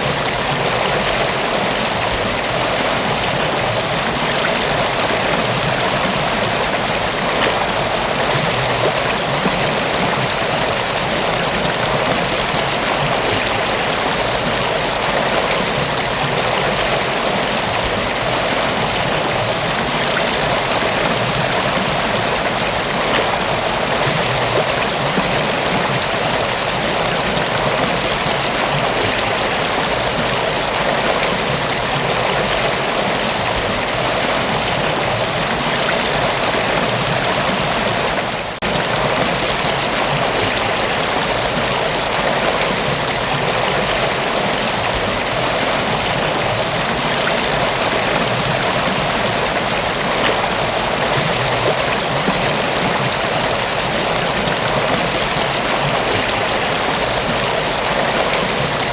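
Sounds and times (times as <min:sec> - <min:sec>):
waterfall rushing and splashing: 0:00.0 - 0:58.9.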